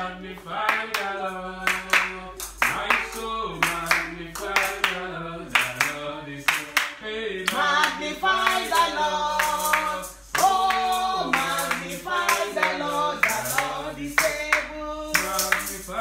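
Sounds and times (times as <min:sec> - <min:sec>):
man singing: 0:00.0 - 0:16.0
hand claps: 0:00.4 - 0:16.0.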